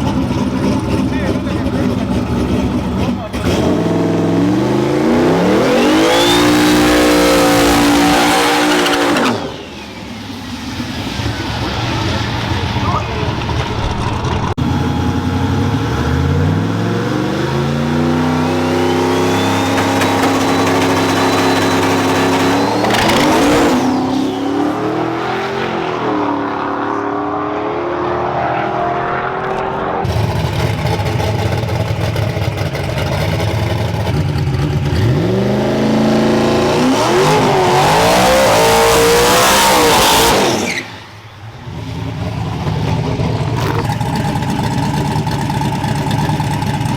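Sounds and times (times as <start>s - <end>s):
high engine whine: 0.0s - 46.9s
truck engines accelerating: 0.0s - 46.9s.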